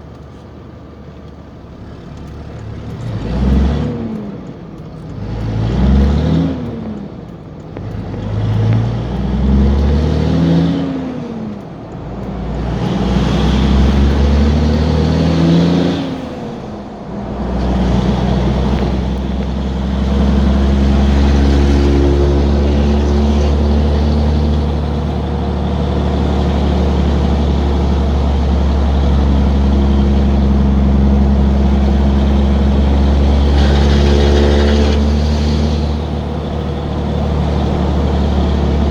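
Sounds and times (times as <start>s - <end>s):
loud diesel truck engine: 0.0s - 38.9s.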